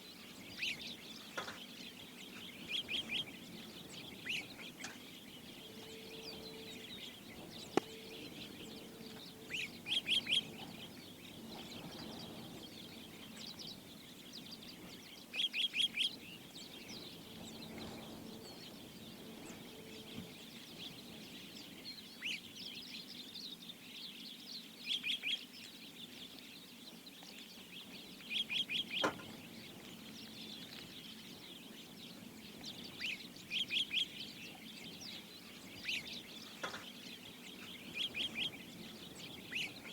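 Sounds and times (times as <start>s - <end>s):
many small bird chirps: 0.0s - 39.9s.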